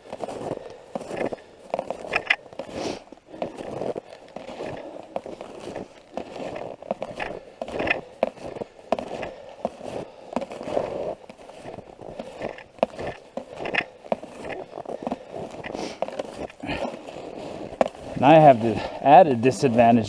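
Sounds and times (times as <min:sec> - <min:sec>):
snowshoe footsteps crunching snow: 0:00.0 - 0:20.0
snowshoe frames clicking: 0:00.0 - 0:20.0.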